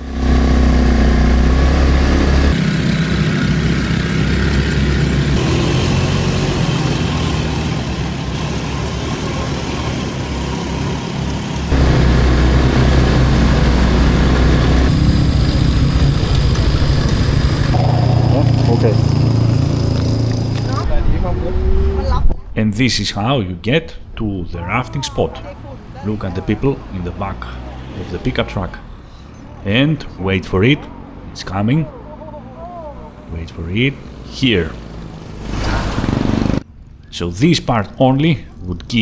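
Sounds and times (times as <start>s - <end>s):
atv engines revving: 0.0s - 39.0s.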